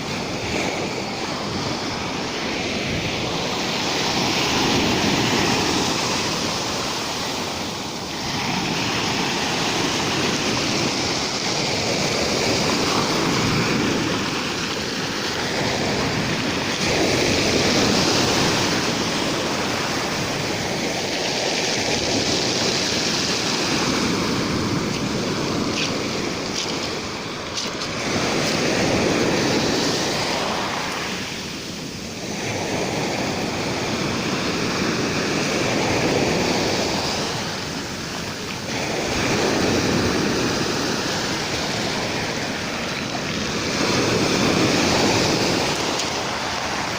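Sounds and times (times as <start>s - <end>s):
rough surf waves breaking: 0.0s - 46.9s.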